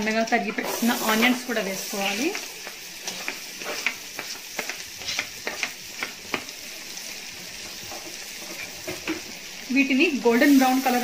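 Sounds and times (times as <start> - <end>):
onions frying in butter: 0.0 - 11.0.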